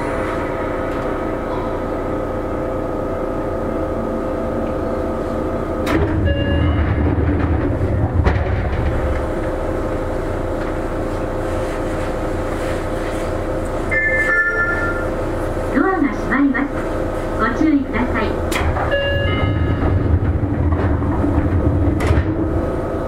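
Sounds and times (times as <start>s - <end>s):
train motor and inverter tones: 0.0s - 23.0s
wheel-on-rail rumble: 0.0s - 23.0s.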